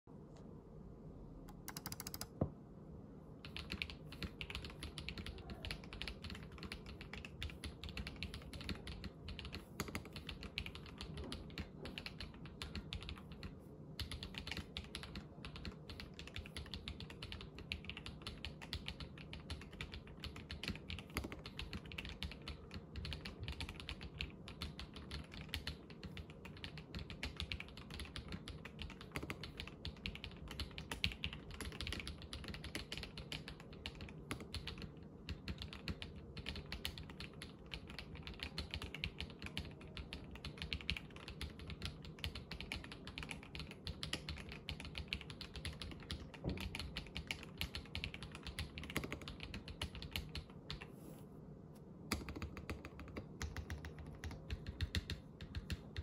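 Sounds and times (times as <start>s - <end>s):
mechanical keyboard typing: 1.5s - 2.4s, 3.4s - 50.9s, 52.1s - 56.0s.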